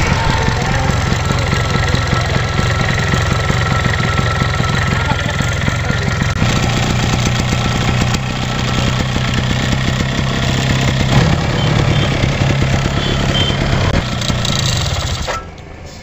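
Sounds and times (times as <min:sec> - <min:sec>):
two-stroke engine idling: 0:00.0 - 0:15.8.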